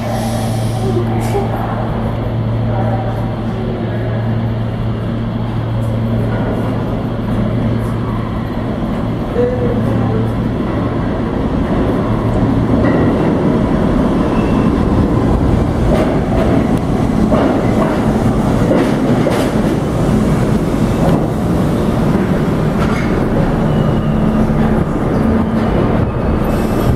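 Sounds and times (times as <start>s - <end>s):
subway train wheels rumbling: 0.0s - 26.9s.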